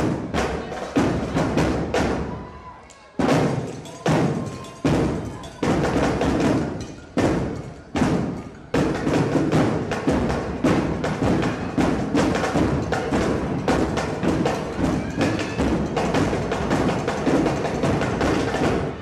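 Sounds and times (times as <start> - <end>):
drum-driven music: 0.0 - 2.4, 3.2 - 19.0.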